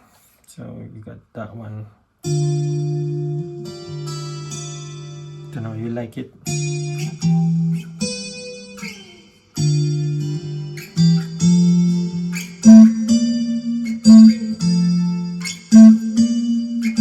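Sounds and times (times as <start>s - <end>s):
guitar strumming chords: 2.2s - 17.0s.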